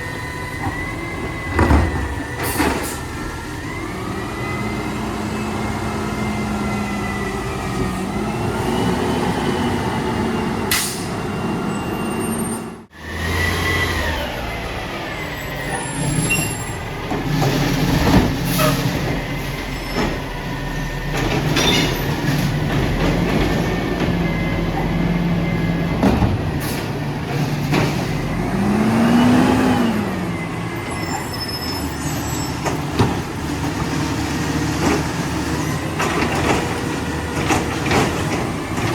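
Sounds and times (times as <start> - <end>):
garbage truck engine running: 0.0 - 38.9.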